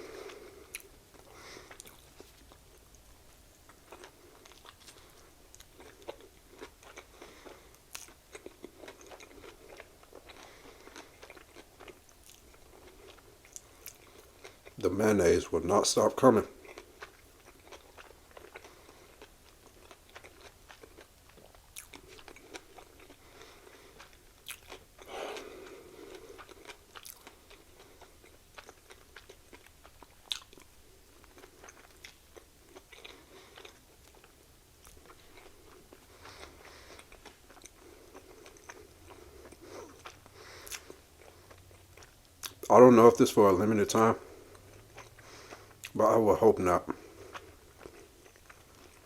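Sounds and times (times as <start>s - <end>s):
person chewing: 0.0s - 14.8s, 16.5s - 42.7s, 43.9s - 46.2s, 46.8s - 49.0s.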